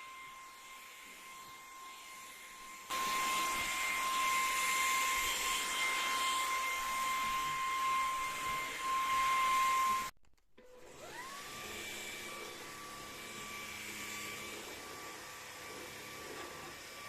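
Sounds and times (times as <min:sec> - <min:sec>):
vacuum cleaner whine: 0:00.0 - 0:17.0.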